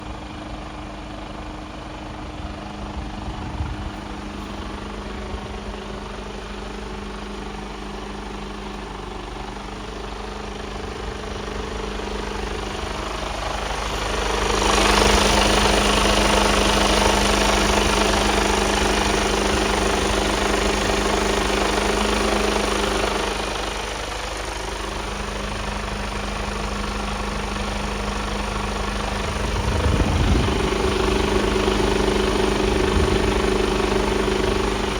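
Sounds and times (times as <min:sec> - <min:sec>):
truck diesel engine idling: 0:00.0 - 0:34.9.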